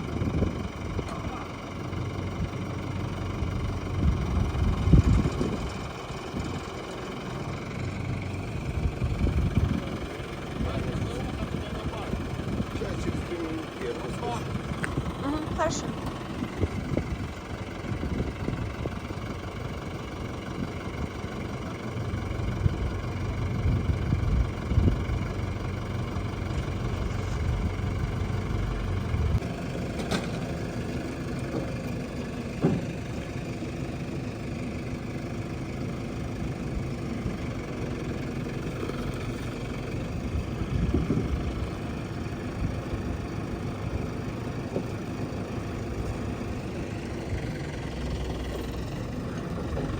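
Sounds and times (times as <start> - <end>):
heavy machinery engine idling: 0.0 - 49.9.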